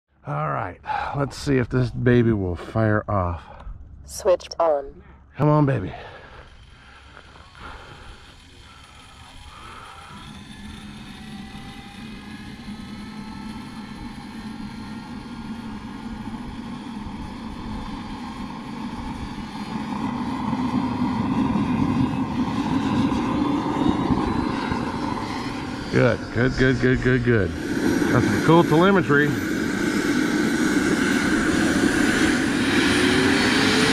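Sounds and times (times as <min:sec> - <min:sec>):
model helicopter spooling up: 0:05.4 - 0:33.9.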